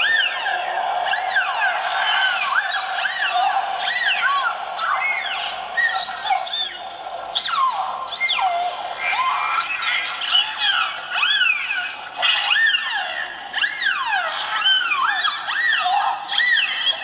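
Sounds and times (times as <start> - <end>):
dogs yelping and whining: 0.0 - 17.0.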